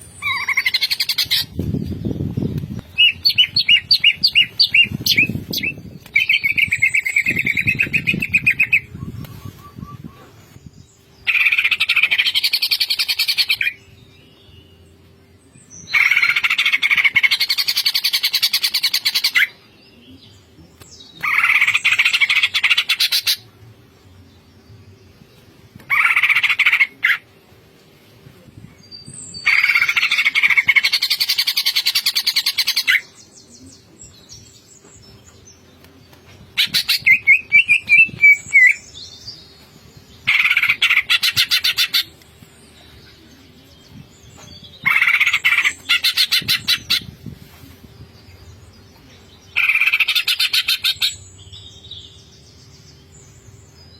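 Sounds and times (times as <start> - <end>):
bird chattering song: 0.0 - 13.8, 15.8 - 19.7, 20.4 - 23.5, 29.0 - 35.4, 36.5 - 53.9.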